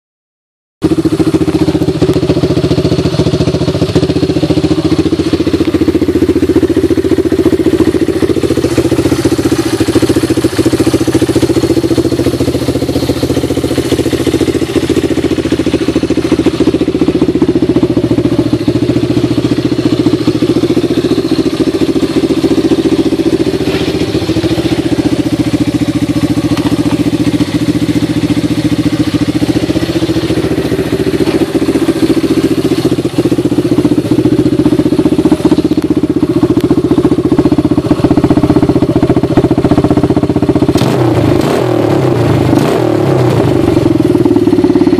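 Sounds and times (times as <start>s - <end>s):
atv engine idling: 0.8s - 44.9s.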